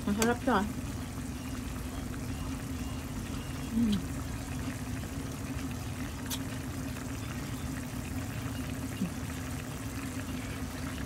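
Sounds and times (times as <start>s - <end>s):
sauce bubbling in a pan: 0.0s - 11.0s.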